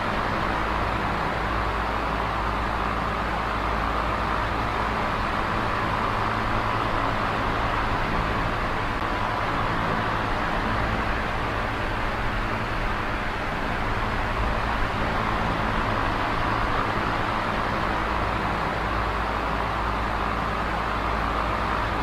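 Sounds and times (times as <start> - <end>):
electric fan air rush: 0.0 - 22.0
fan motor hum: 0.0 - 22.0.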